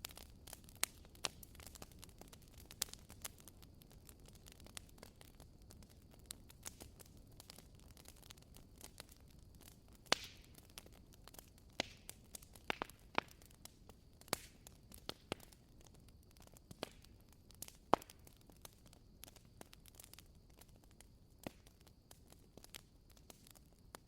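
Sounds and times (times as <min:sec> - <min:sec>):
faint fire hiss: 0:00.0 - 0:24.0
firewood crackling and popping: 0:00.0 - 0:24.0.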